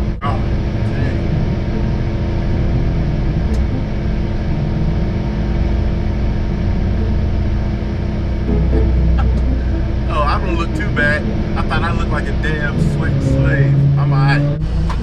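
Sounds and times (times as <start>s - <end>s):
rotary engine idling: 0.0s - 15.0s.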